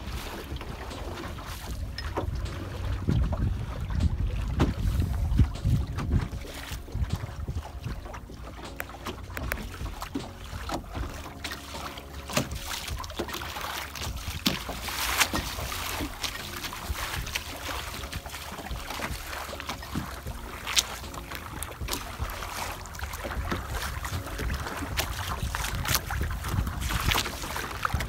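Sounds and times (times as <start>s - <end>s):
water splashing against a boat: 0.0s - 28.0s
wind on microphone: 0.0s - 28.0s.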